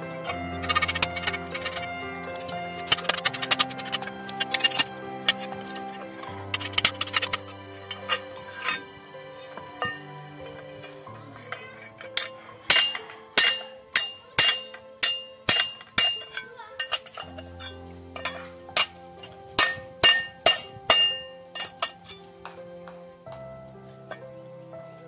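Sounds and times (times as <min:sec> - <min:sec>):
background music: 0:00.0 - 0:25.0
hammer striking steel plate: 0:00.2 - 0:08.8, 0:09.5 - 0:22.2.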